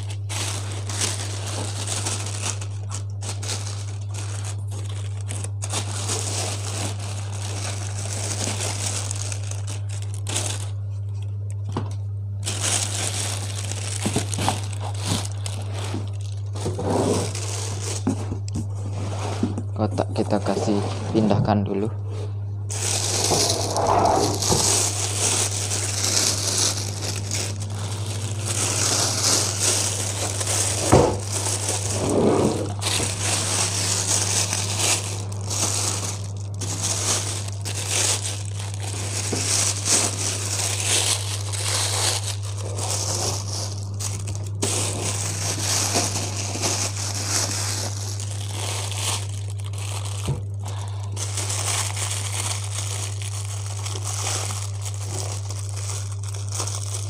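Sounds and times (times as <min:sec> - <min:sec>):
plastic wrapping crinkling: 0:00.0 - 0:21.4, 0:22.7 - 0:57.0
steady low hum: 0:00.0 - 0:57.0.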